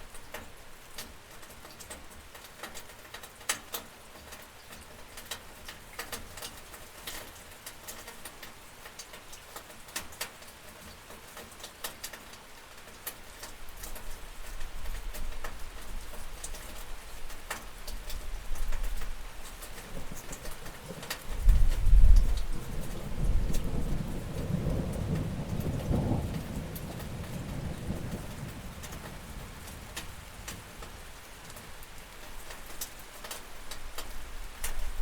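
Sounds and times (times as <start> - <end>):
rain pattering on a window: 0.0 - 35.0.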